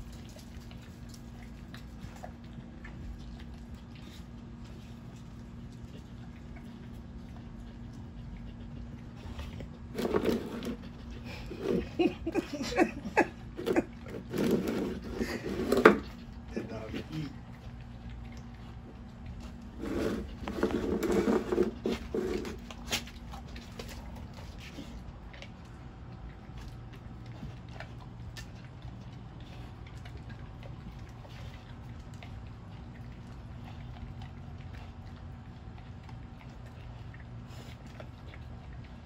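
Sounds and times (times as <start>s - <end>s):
dog chewing and licking food: 0.0s - 39.0s.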